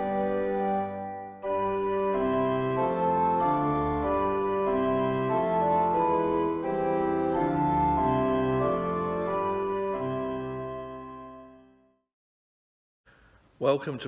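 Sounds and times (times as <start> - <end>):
organ playing sustained chords: 0.0 - 11.8.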